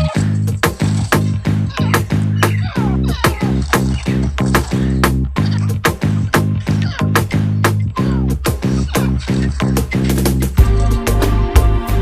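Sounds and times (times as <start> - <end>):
deep bass line: 0.0 - 12.0.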